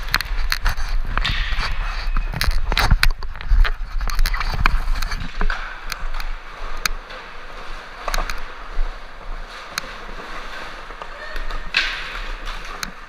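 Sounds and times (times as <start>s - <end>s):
skateboard clicks and knocks: 0.0s - 13.0s
skateboard wheels rumbling on concrete: 0.0s - 13.0s.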